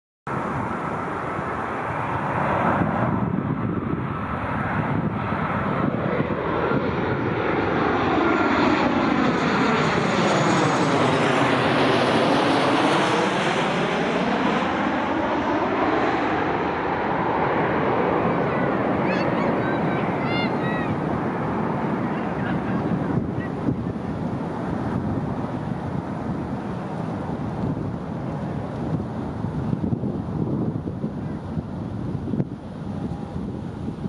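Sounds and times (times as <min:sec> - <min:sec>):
jet airliner engines flying past: 0:00.3 - 0:34.0.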